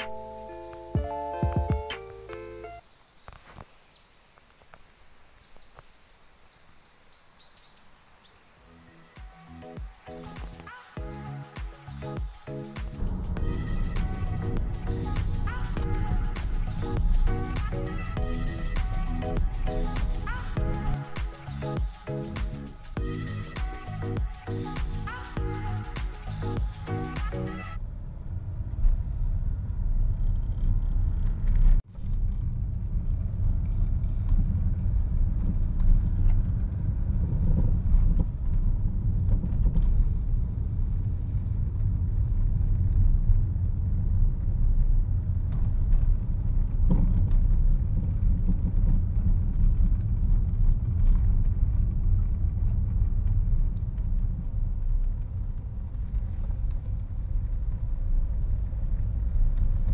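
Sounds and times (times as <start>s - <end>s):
car engine and tyres rumbling: 9.5s - 59.9s.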